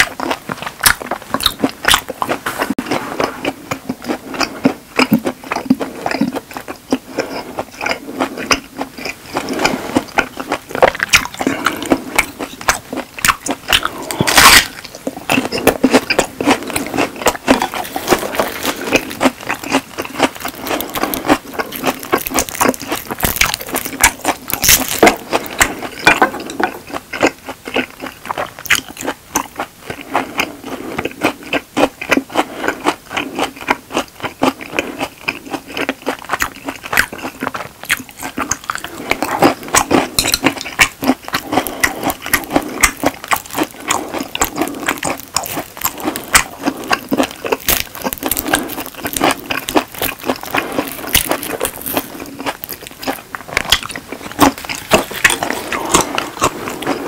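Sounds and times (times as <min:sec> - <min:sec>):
person chewing steak: 0:00.0 - 0:57.0.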